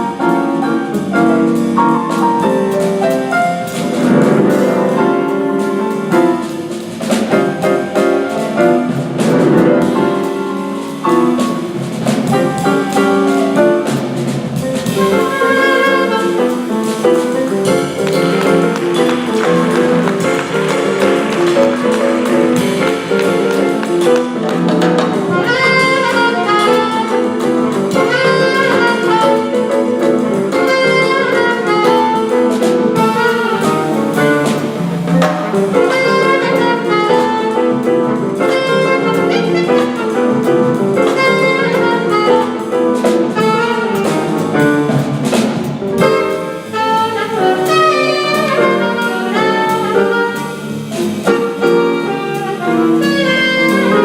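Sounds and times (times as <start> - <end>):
alto saxophone: 0.0 - 54.0
drums: 0.0 - 54.0
piano chords: 0.0 - 54.0.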